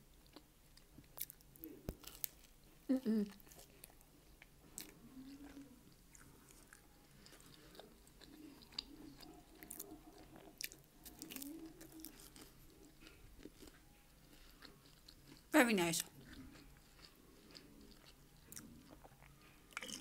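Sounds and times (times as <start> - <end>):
chewing pizza: 0.1 - 20.0.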